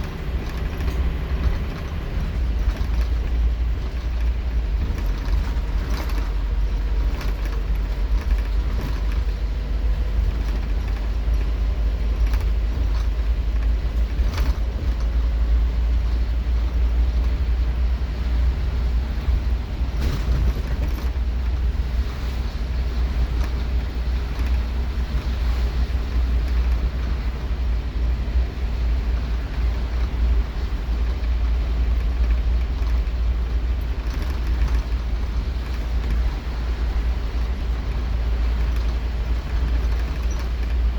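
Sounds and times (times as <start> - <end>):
bus diesel engine running: 0.0 - 40.9
road noise: 0.0 - 40.9.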